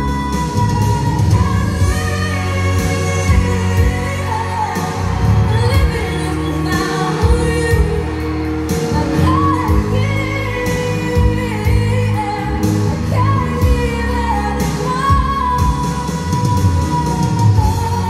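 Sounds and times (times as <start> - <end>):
song with singing over a beat: 0.0 - 18.0.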